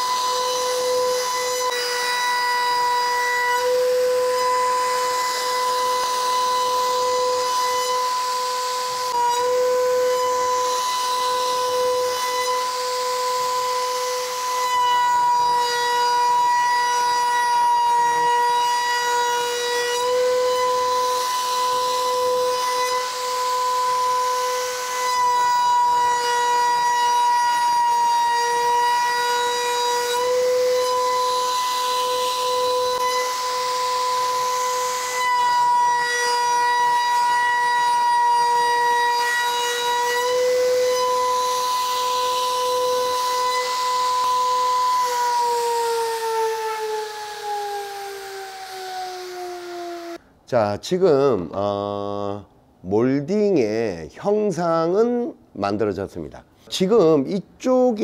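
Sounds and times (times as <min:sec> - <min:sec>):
hiss of bit cutting wood: 0:00.0 - 0:50.2
router spindle high-pitched whine: 0:00.0 - 0:50.2.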